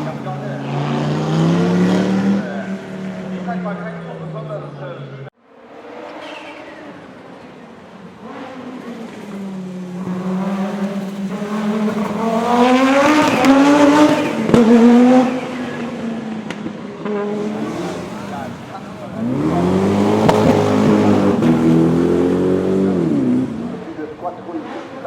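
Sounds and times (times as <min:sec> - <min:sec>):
rally car engine passing: 0:00.0 - 0:25.0.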